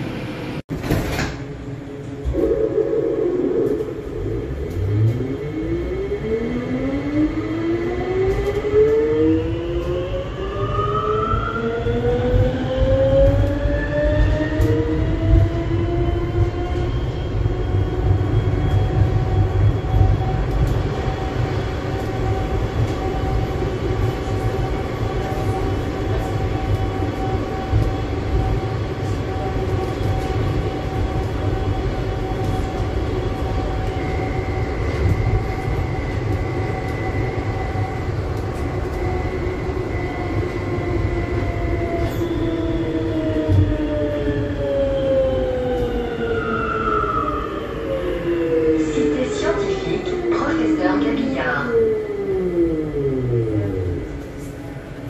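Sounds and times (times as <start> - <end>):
electric train whine: 0.0 - 55.0.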